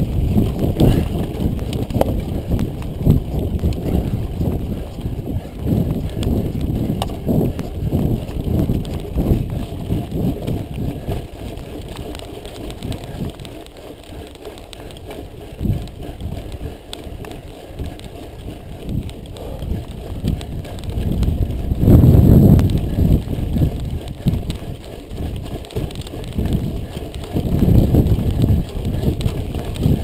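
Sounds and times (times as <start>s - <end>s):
bike rattling: 0.0s - 30.0s
tyres crunching over loose stones: 0.0s - 30.0s
wind rumbling on microphone: 0.0s - 30.0s.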